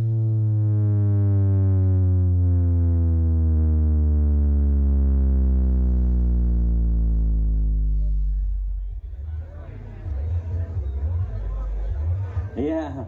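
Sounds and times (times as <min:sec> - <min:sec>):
deep electronic tone gliding downward: 0:00.0 - 0:13.0.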